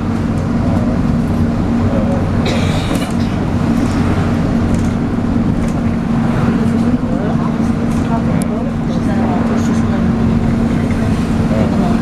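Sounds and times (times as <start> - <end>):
bus engine droning with whine: 0.0 - 12.0.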